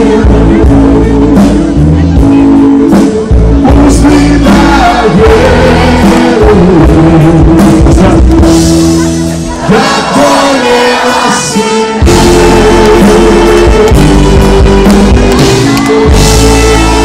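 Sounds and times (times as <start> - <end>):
drum kit: 0.0 - 17.0
guitar: 0.0 - 17.0
person singing: 0.0 - 17.0.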